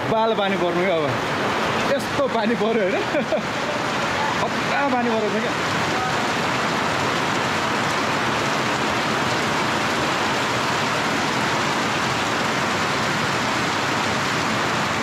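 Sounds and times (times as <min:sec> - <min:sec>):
heavy rain on tarpaulin: 0:00.0 - 0:15.0
water running onto paving: 0:00.1 - 0:15.0.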